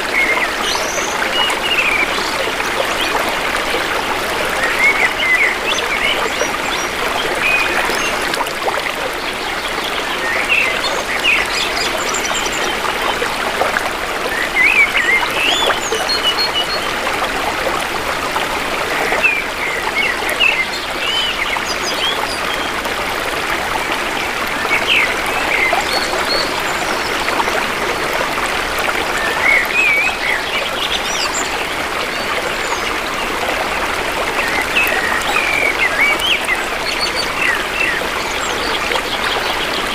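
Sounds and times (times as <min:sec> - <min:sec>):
river water trickling: 0:00.0 - 0:39.9.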